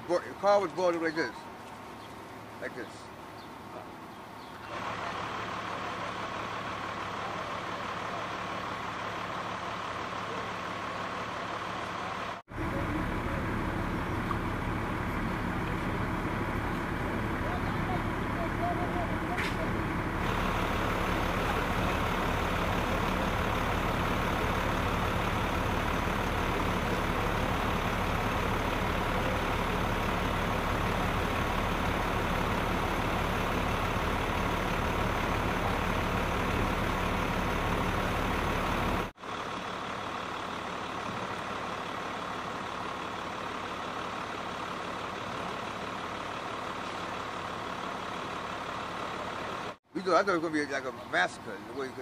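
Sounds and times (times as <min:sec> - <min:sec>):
large vehicle engine idling: 0:00.0 - 0:52.0.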